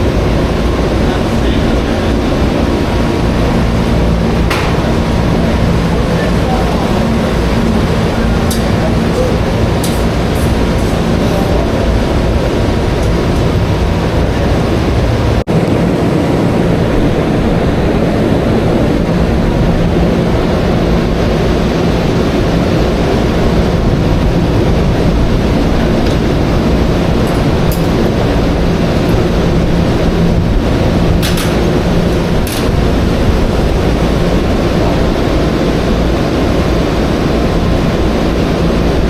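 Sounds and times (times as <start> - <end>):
loud rumbling with low hum: 0.0 - 39.0.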